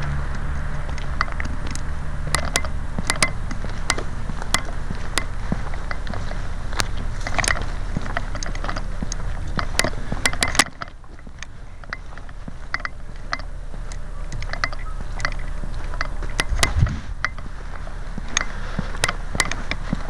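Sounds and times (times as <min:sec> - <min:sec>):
low rumble on microphone: 0:00.0 - 0:20.0
rustling through dry grass: 0:00.0 - 0:20.0
sharp clicks and knocks: 0:00.0 - 0:20.0.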